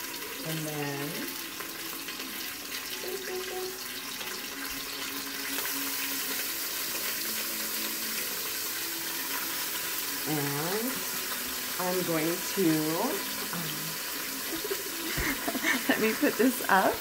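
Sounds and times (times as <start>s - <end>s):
beef sizzling in hot oil: 0.0s - 17.0s.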